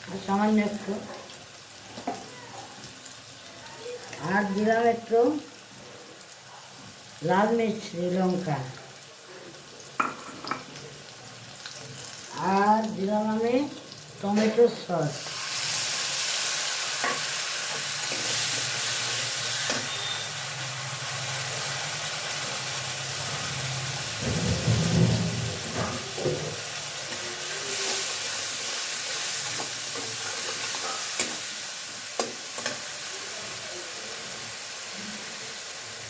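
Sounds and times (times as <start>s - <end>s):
sauce sizzling in hot oil: 0.0s - 36.0s.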